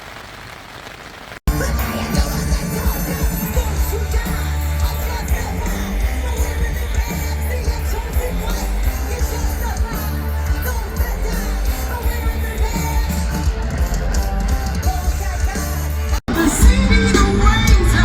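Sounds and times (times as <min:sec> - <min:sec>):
different music: 0:01.5 - 0:18.0
rock music with singer: 0:01.5 - 0:18.0.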